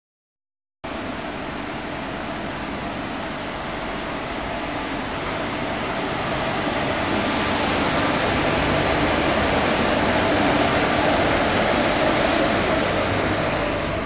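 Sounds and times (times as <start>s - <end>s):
electric locomotive rumbling past: 0.9s - 14.0s
train wheels on rails: 1.0s - 14.0s.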